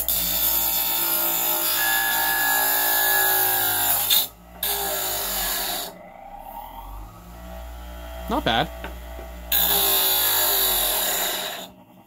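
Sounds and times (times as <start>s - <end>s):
wood grinding on grinder wheel: 0.0s - 11.8s
bench grinder motor whine: 0.0s - 12.0s.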